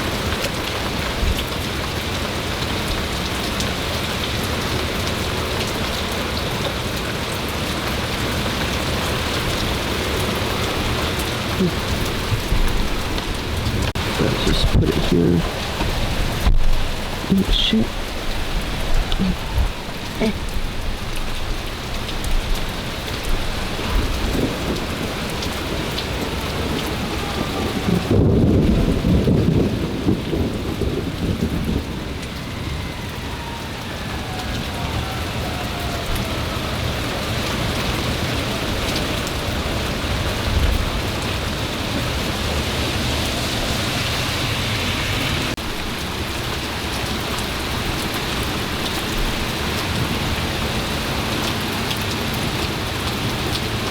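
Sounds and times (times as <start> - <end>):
rain falling: 0.0 - 53.9
thunder rumbling: 8.9 - 53.9.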